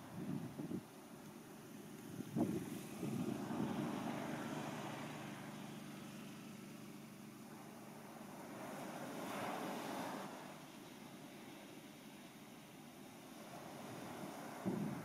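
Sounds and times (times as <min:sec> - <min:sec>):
ocean surf on sandy beach: 0:00.0 - 0:15.0.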